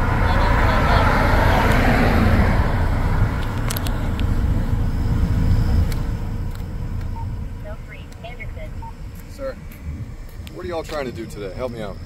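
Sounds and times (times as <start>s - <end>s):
cars passing on highway: 0.0s - 11.0s.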